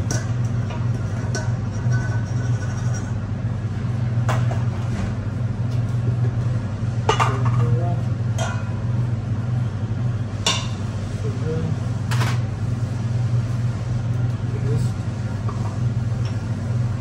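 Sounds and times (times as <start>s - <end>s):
low hum of kitchen machinery: 0.0s - 17.0s.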